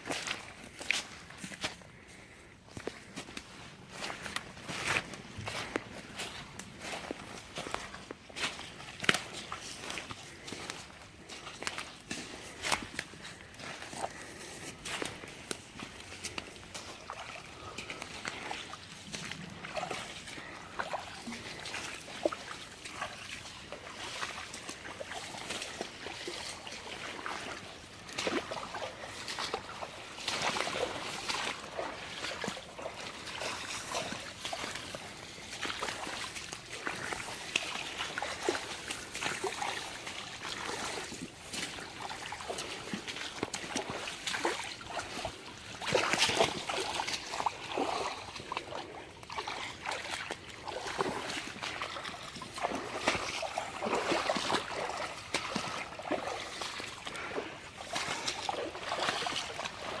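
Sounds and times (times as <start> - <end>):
footsteps splashing through water: 0.0 - 60.0.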